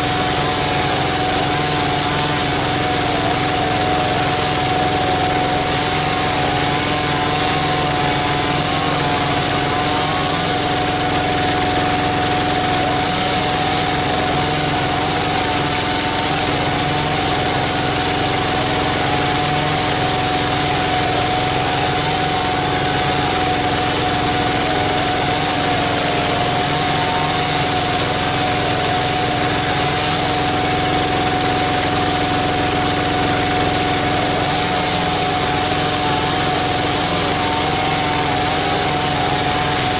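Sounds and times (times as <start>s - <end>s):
diesel engine running steadily: 0.0s - 39.9s
steady high tone: 0.0s - 39.9s.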